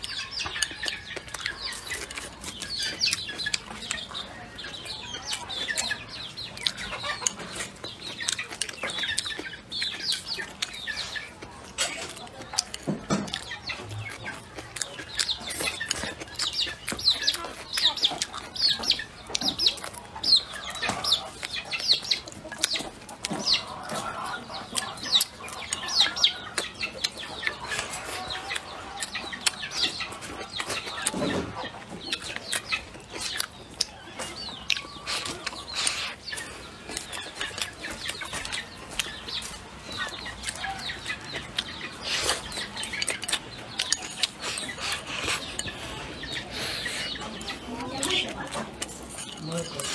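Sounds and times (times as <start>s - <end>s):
wet chewing and lip smacks: 0.0s - 49.9s.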